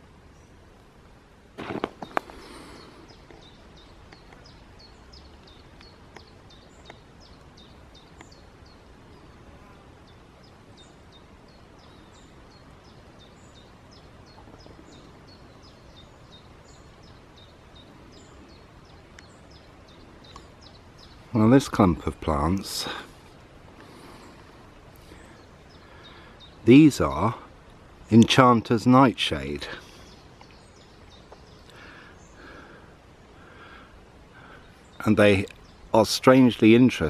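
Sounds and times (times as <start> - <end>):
small bird chirping: 1.6 - 28.6, 29.3 - 33.3.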